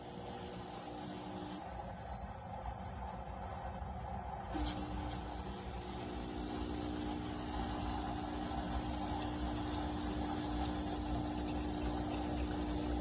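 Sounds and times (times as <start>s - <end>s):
espresso machine pump humming: 0.0s - 3.1s, 4.2s - 13.0s.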